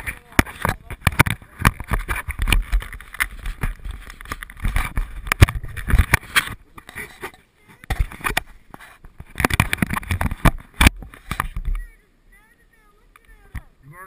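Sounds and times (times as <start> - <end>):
camera handling knocks and rustles: 0.0 - 11.8.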